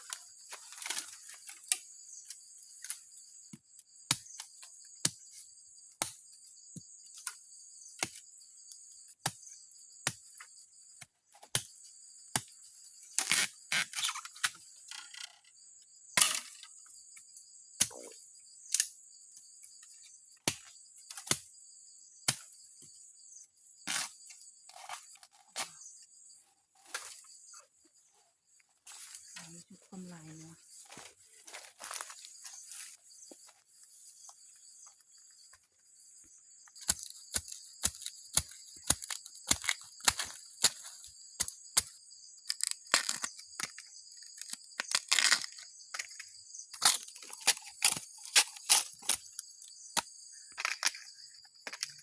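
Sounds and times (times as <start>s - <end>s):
insect chorus trilling: 0.0s - 52.0s.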